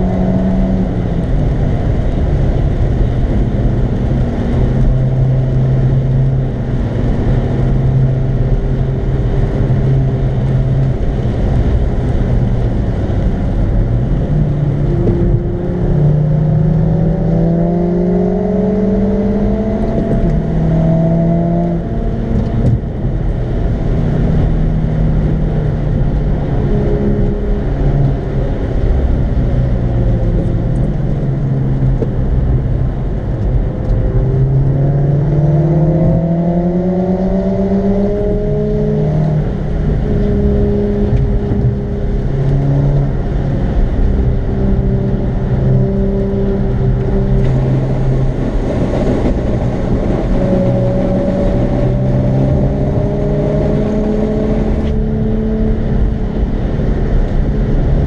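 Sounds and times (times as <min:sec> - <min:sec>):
car engine humming: 0:00.0 - 0:58.0
tyre and road noise: 0:00.0 - 0:58.0.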